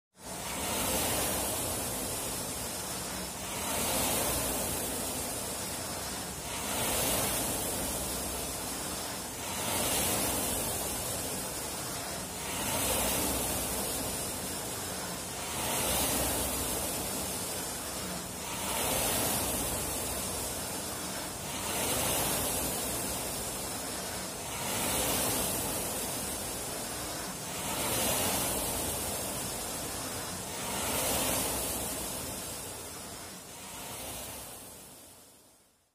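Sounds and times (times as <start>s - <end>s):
rowing machine flywheel rushing: 0.2s - 35.3s.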